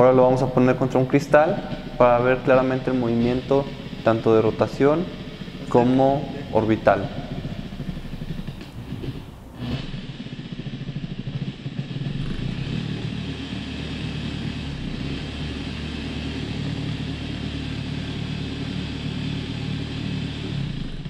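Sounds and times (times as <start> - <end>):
orbital polisher motor hum: 0.0 - 21.0.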